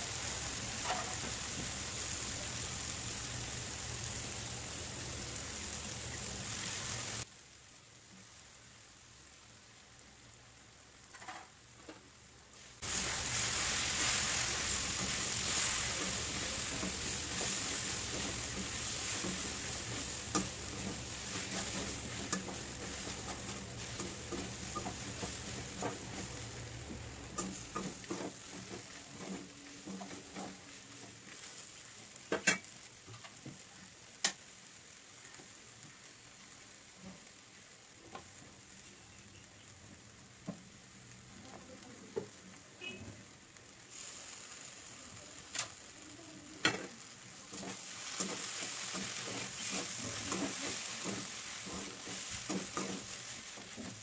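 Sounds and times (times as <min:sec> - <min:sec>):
food sizzling in pan: 0:00.0 - 0:54.0.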